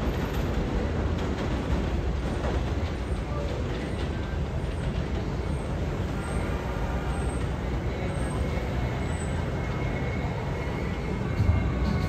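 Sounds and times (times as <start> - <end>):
train rumbling on elevated track: 0.0 - 12.0.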